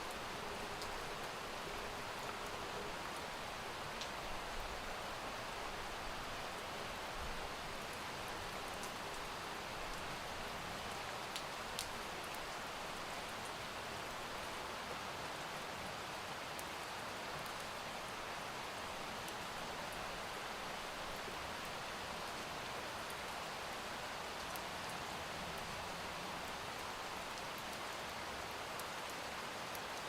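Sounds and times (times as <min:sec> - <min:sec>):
rain pattering: 0:00.1 - 0:30.0.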